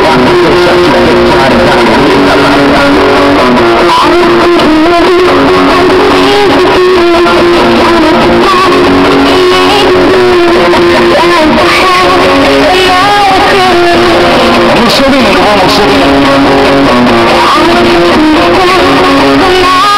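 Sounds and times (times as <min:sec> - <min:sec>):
loud guitar music from car stereo: 0:00.0 - 0:19.9.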